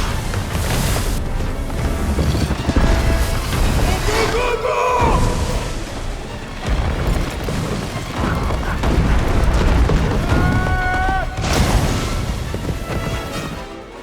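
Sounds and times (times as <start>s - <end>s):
music: 0.0s - 14.0s.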